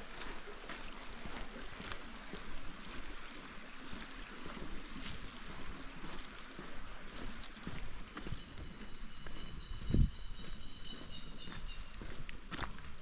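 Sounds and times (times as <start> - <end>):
rain hiss and patter: 0.0 - 9.3, 11.8 - 13.0
creek rushing: 0.0 - 13.0.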